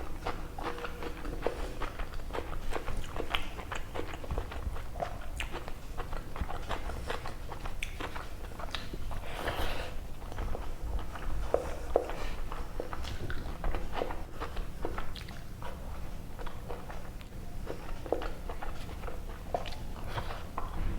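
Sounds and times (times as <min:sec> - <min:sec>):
chewing and mouth sounds: 0:00.0 - 0:20.9.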